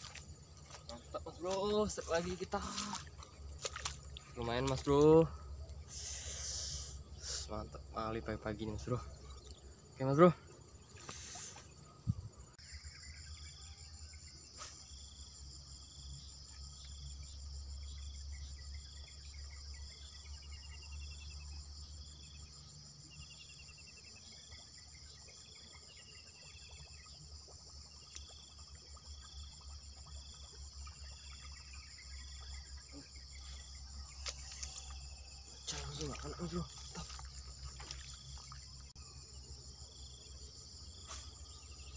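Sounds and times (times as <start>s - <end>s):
crickets and insects chirping: 0.0s - 41.9s.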